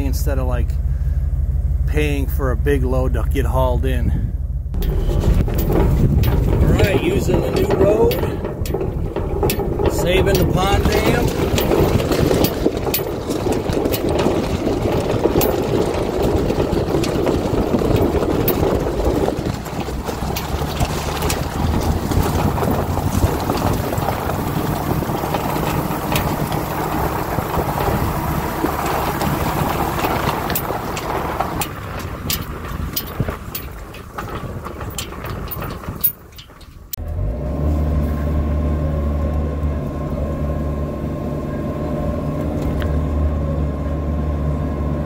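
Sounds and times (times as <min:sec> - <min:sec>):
gravel crunching under tires: 0:00.0 - 0:45.0
truck engine running: 0:00.0 - 0:45.0.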